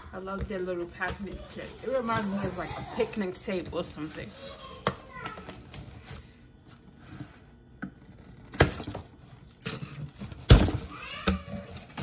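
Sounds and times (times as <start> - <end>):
cardboard rustling and scraping: 0.5 - 12.0.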